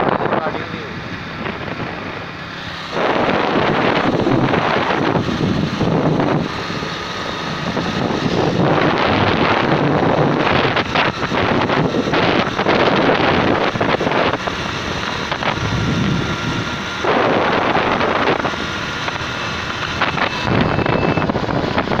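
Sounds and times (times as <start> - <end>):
motorbike engine and road noise: 0.0 - 22.0
wind rushing over microphone: 0.0 - 22.0.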